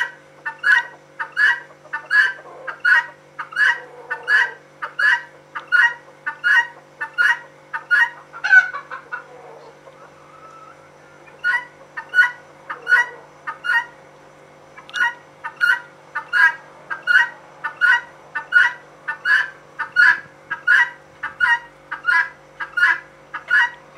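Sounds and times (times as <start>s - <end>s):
guinea fowl calling: 0.0s - 14.0s, 14.7s - 23.9s.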